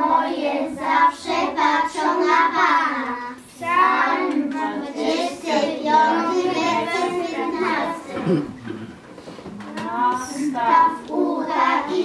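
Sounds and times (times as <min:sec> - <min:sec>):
children singing together: 0:00.0 - 0:08.5, 0:09.8 - 0:12.0.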